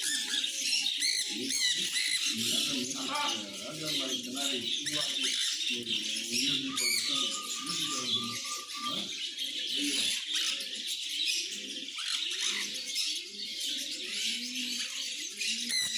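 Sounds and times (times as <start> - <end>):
birds chirping high-pitched chatter: 0.0 - 15.9.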